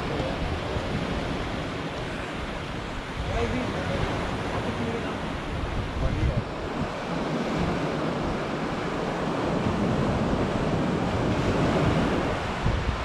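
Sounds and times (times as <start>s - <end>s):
surf washing up beach: 0.0s - 13.0s
wind gusting on microphone: 0.0s - 13.0s.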